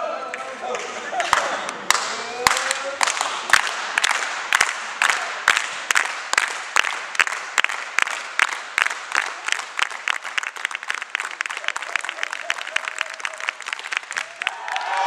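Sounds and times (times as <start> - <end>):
people clapping in unison: 0.3 - 15.0.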